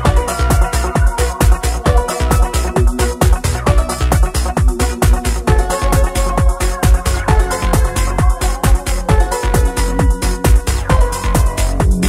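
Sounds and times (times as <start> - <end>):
electronic dance music: 0.0 - 12.0
steady kick drum: 0.0 - 12.0.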